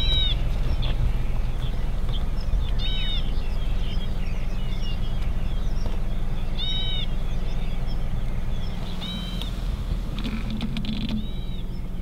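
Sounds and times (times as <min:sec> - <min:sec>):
bird call: 0:00.0 - 0:12.0
soft bird chirps: 0:00.0 - 0:12.0
steady low rumble: 0:00.0 - 0:12.0.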